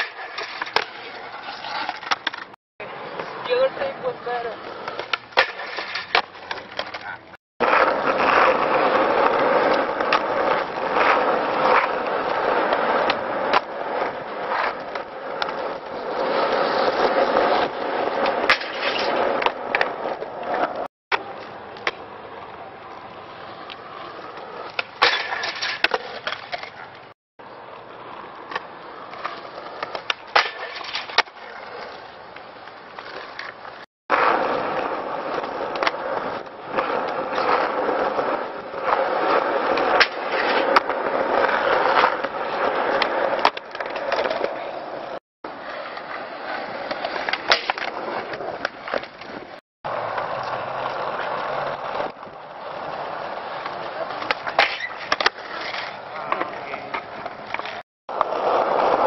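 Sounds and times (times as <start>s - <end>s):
skateboard clacks: 0.0s - 27.1s, 27.7s - 59.0s
skateboard wheels rolling on asphalt: 0.0s - 59.0s.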